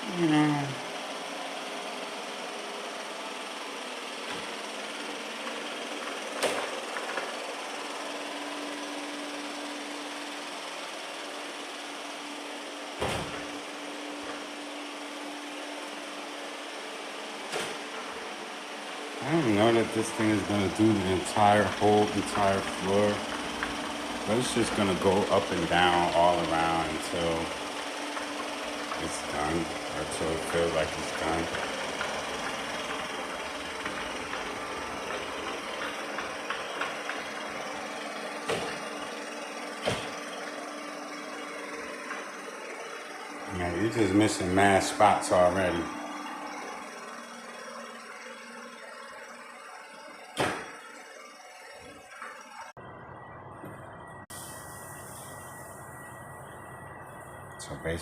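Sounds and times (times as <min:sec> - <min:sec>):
robot vacuum humming: 0:00.0 - 0:52.7.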